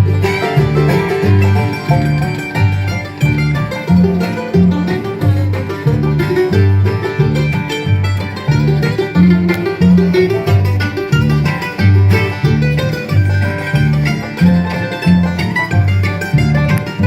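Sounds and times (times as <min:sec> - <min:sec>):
banjo picking: 0:00.0 - 0:17.0
bass line: 0:00.0 - 0:17.0
guitar picking: 0:00.0 - 0:17.0.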